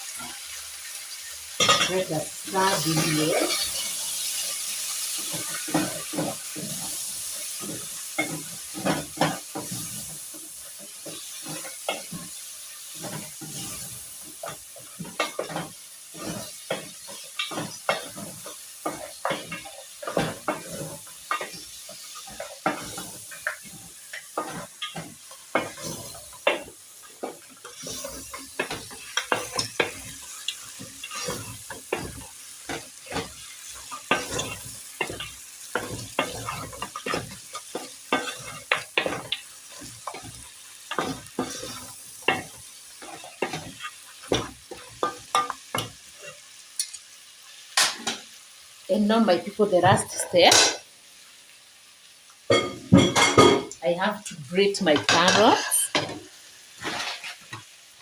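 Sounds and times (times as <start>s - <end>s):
food sizzling: 0.0s - 58.0s.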